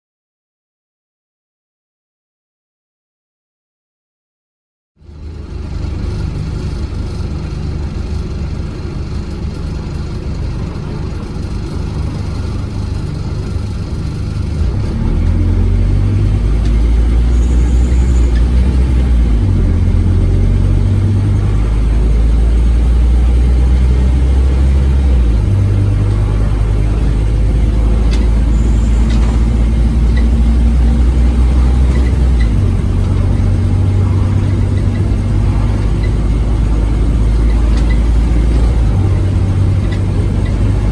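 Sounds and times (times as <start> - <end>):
bus engine accelerating: 5.0 - 40.9.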